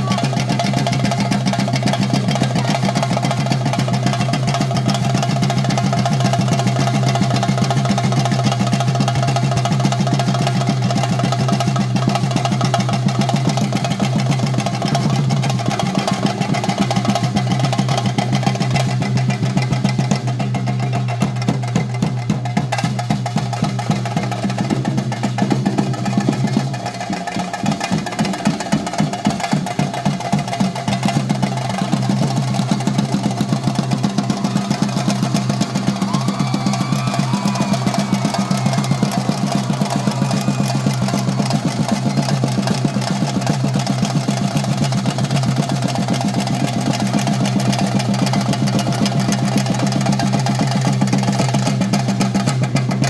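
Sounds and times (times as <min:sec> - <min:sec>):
chenda drums fast roll: 0:00.0 - 0:53.0.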